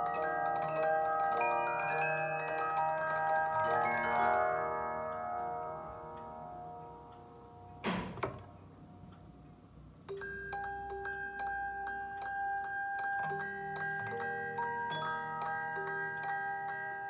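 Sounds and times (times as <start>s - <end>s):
music box notes ringing: 0.0s - 7.8s, 10.1s - 17.0s.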